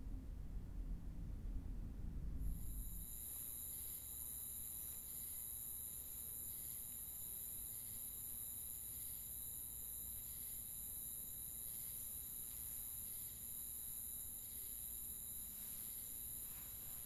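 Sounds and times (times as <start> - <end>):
crickets droning: 2.4 - 17.0.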